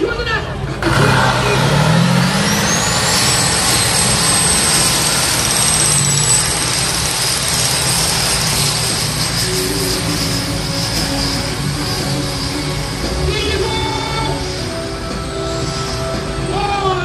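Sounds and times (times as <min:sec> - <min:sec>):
tractor engine roaring: 0:00.0 - 0:17.0
high whine: 0:00.5 - 0:17.0.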